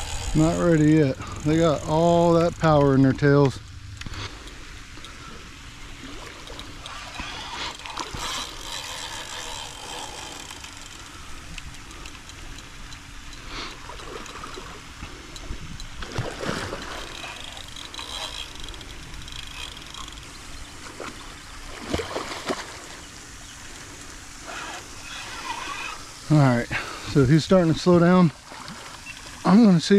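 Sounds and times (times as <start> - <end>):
water splashing and churning: 0.0 - 29.9.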